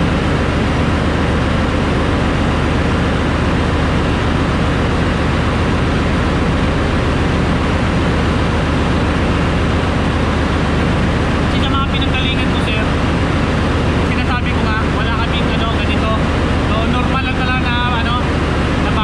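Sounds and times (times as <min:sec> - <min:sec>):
engine room machinery din: 0:00.0 - 0:19.0
low hum: 0:00.0 - 0:19.0.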